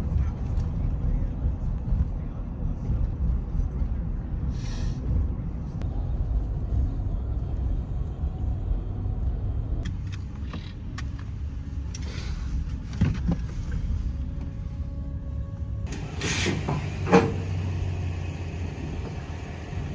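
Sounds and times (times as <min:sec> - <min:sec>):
motor vehicle rumbling: 0:00.0 - 0:19.9.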